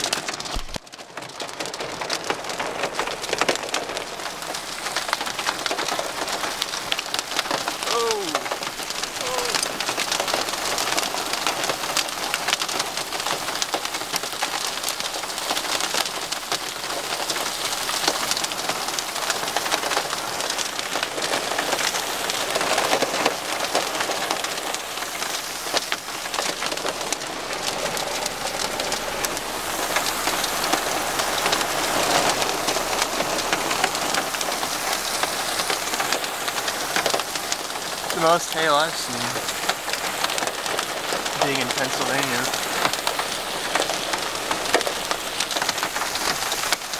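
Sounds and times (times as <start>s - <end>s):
hailstones ticking: 0.0s - 46.9s
heavy rain hissing: 1.7s - 46.9s.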